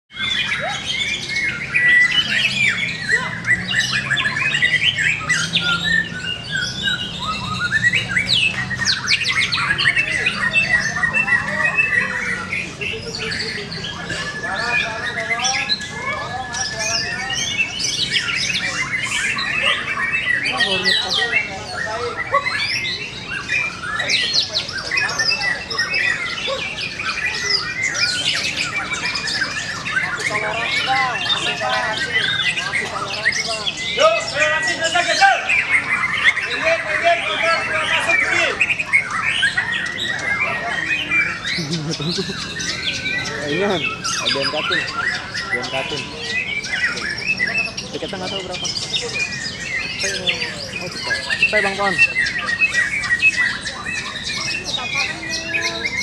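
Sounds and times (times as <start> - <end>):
bird singing loudly: 0.1 - 56.0
other birds singing: 0.1 - 56.0.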